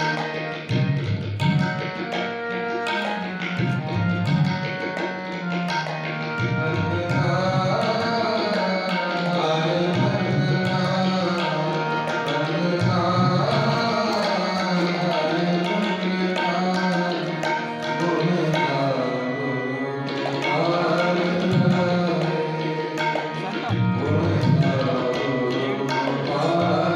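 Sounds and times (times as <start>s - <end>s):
harmonium chords: 0.0s - 26.9s
tabla rhythm: 0.0s - 26.9s.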